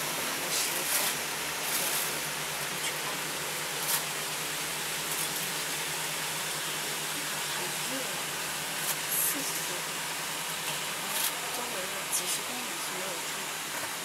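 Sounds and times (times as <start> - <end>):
rushing noise in gondola cabin: 0.0 - 14.0
sharp hissy noises: 0.0 - 14.0.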